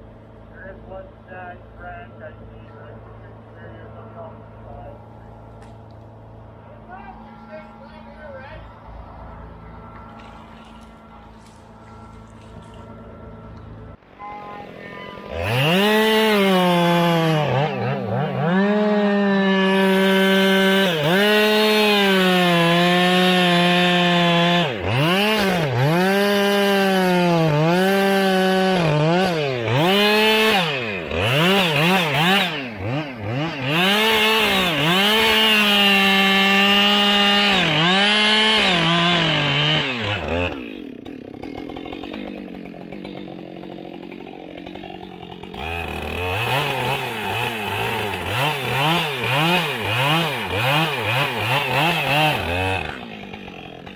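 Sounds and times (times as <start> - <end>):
chainsaw cutting wood: 7.4 - 14.1, 14.7 - 53.9.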